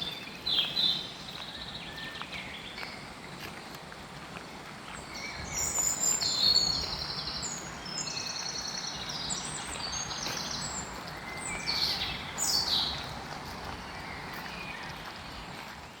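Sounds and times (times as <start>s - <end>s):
songbirds singing: 0.0s - 3.7s, 4.5s - 16.0s
outdoor ambience hiss: 0.0s - 16.0s.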